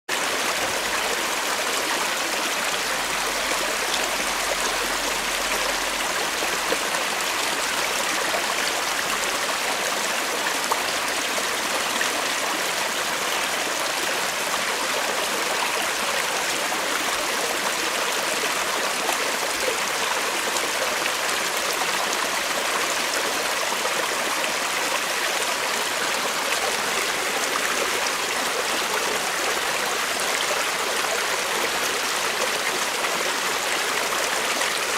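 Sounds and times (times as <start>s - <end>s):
creek water babbling over stones: 0.1s - 34.9s.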